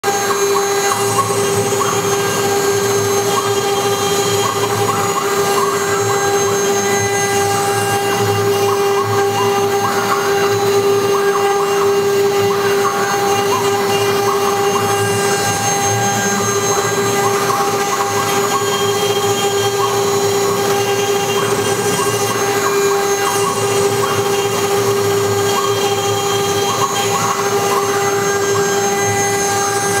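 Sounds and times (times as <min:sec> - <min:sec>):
milling machine spindle whine: 0:00.0 - 0:30.0.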